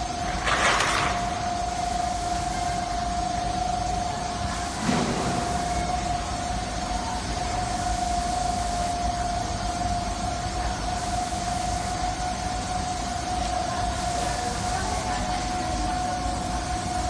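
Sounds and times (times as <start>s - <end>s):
machinery whine: 0.0s - 17.0s.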